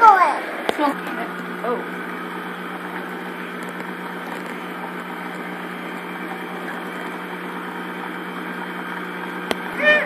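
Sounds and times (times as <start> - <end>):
stand mixer motor hum: 0.3 - 10.0.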